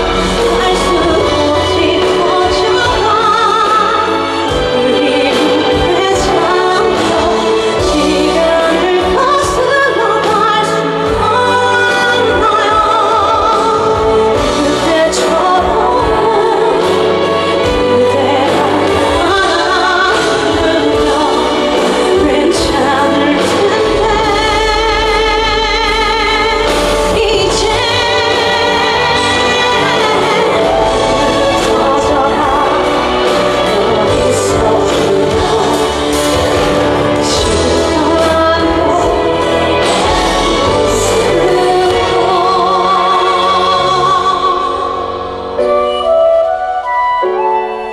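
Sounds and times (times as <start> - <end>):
woman singing pop ballad: 0.0 - 46.1
band accompaniment: 0.0 - 47.9.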